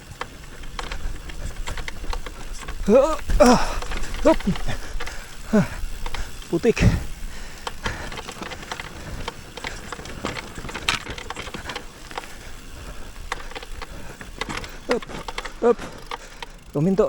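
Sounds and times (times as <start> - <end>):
bike clicks and rattles: 0.0 - 17.0
bike tyres on dirt trail: 0.0 - 17.0.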